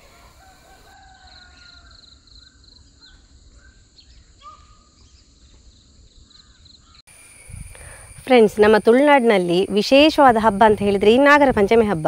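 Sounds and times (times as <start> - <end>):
insect chirping in pulses: 0.0 - 4.4, 5.1 - 12.0.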